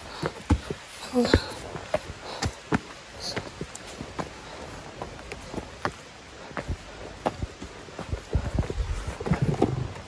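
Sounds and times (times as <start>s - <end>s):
footsteps on a trail: 0.0s - 10.0s.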